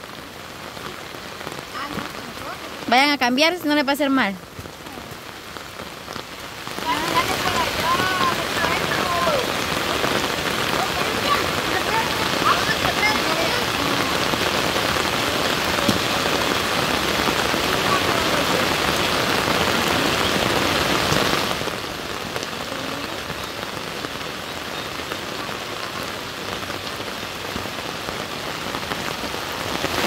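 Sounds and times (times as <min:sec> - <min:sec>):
steady rain pouring: 0:00.0 - 0:30.0.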